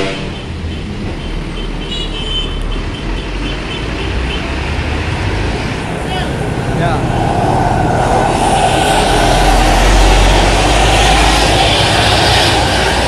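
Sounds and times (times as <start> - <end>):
bus diesel engine passing: 0.0 - 13.0
road traffic: 0.0 - 13.0.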